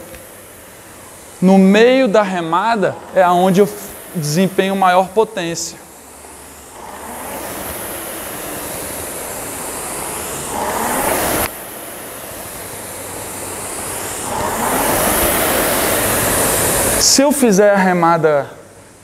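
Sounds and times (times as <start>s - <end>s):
rowing machine flywheel whooshing: 0.0s - 18.0s.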